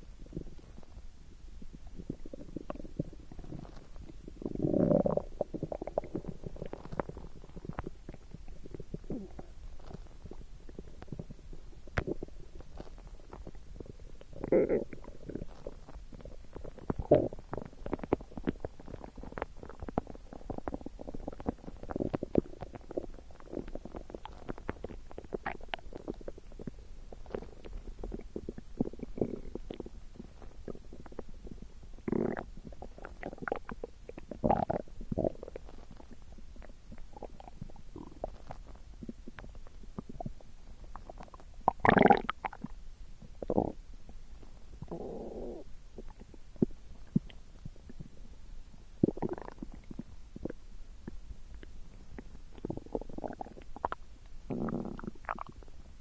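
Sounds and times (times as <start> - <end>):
stomach gurgling: 0.0 - 56.0.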